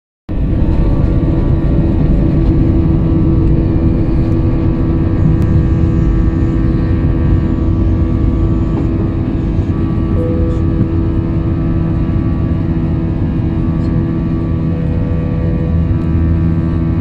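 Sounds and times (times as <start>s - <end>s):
jet engines roaring: 0.3s - 17.0s
steady humming tone: 0.3s - 17.0s.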